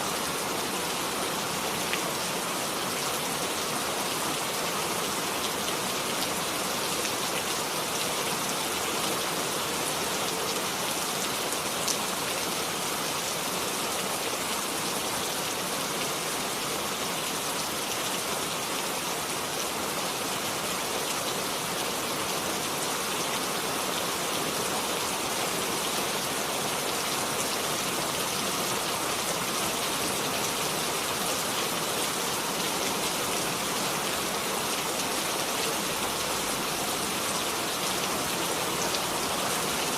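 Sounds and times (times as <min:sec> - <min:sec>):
rain pattering on a surface: 0:00.1 - 0:39.9.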